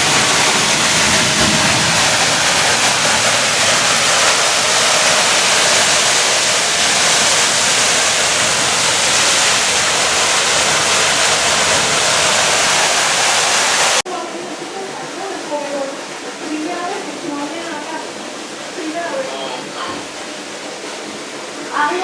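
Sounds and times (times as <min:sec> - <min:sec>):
torrential rain and rushing water: 0:00.0 - 0:22.0.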